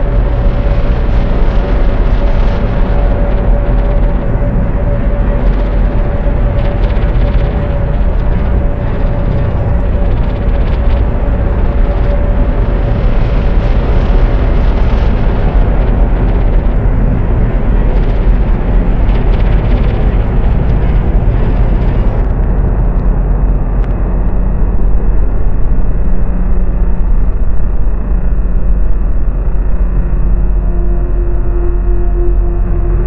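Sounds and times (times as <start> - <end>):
dense rumbling noise drone: 0.0 - 33.0
faint steady tones: 0.0 - 33.0.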